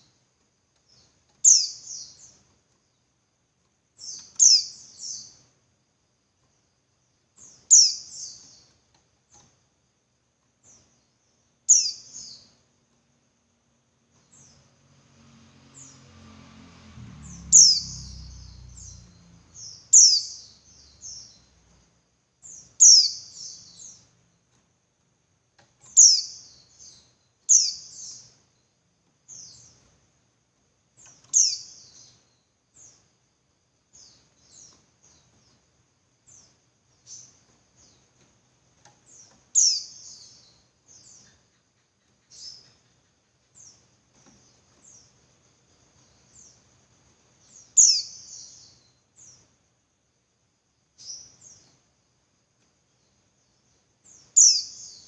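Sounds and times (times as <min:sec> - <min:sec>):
bird chirping: 0:00.0 - 0:09.7, 0:10.4 - 0:13.0, 0:14.0 - 0:30.0, 0:30.9 - 0:49.6, 0:50.8 - 0:55.0.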